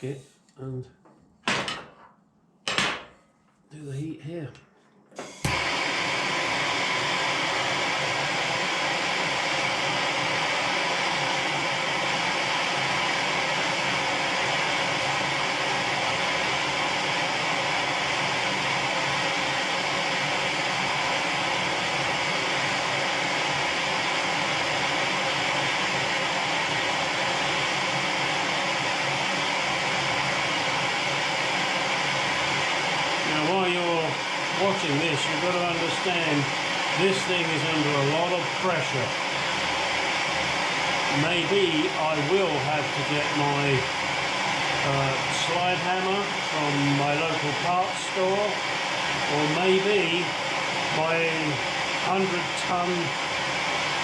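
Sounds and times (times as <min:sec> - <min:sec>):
gas torch hissing: 0:05.2 - 0:54.0.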